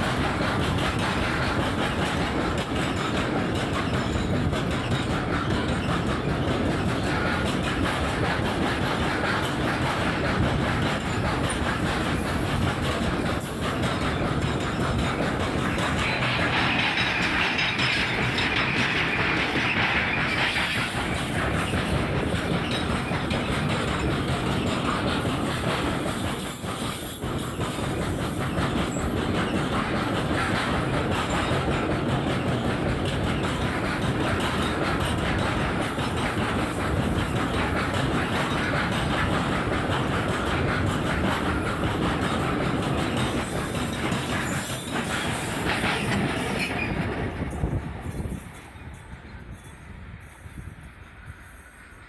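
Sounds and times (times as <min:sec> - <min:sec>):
wheels clacking over rail joints: 0:00.0 - 0:49.7
freight train rumbling past: 0:00.0 - 0:52.0.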